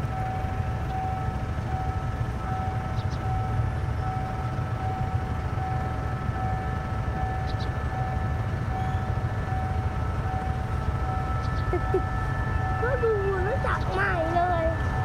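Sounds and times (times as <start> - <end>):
diesel locomotive engine rumble: 0.0 - 15.0
faint steady whine: 0.0 - 15.0.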